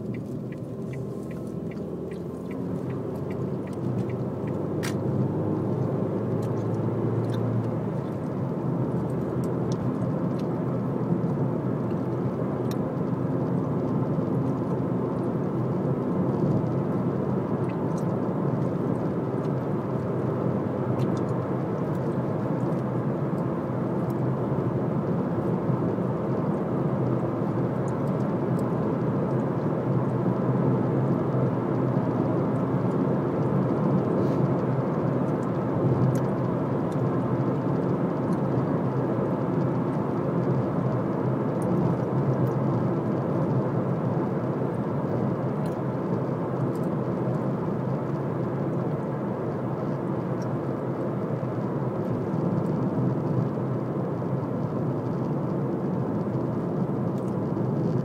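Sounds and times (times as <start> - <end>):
car engine hum: 0.0 - 58.0
tyre roar on tarmac: 0.0 - 58.0.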